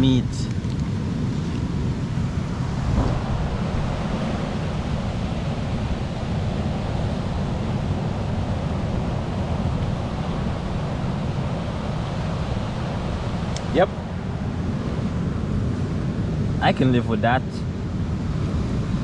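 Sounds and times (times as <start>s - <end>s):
wind buffeting the microphone: 0.0s - 19.0s
surf breaking on a beach: 0.9s - 19.0s.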